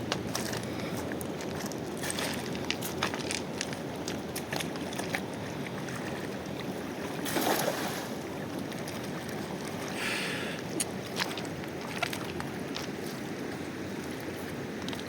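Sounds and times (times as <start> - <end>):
water rushing: 0.0 - 15.0
wind: 0.0 - 15.0.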